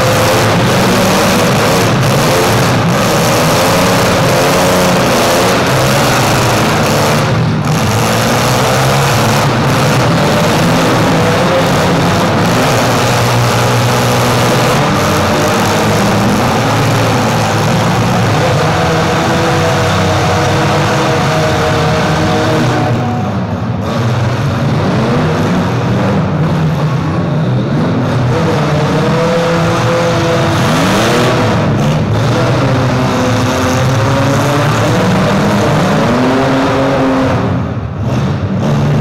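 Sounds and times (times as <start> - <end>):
engines revving: 0.0 - 39.0.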